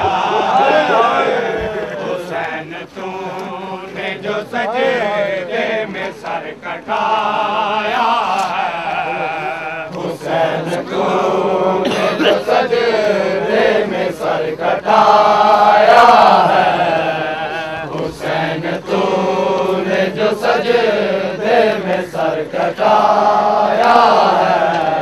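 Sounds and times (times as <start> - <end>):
men chanting a lament: 0.0 - 25.0.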